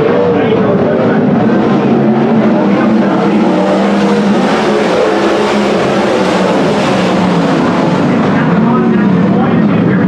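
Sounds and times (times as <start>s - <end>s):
racing car engines: 0.0s - 10.0s.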